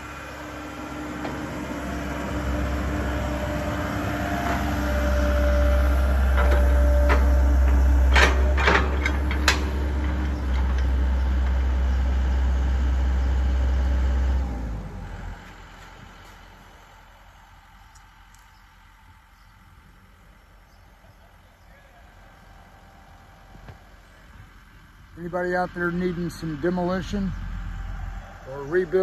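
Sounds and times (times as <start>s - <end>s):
excavator diesel engine and hydraulics: 0.0s - 29.0s.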